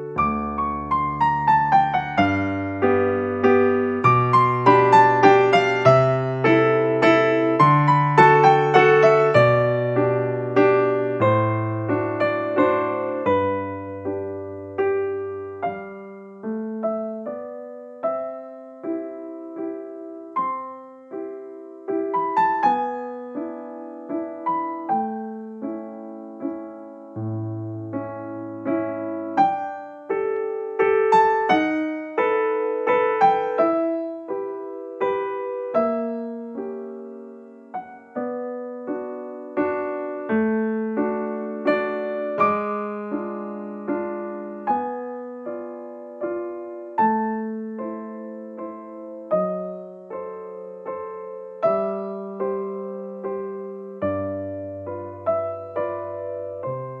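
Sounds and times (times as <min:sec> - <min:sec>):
slow solo piano piece: 0:00.0 - 0:57.0.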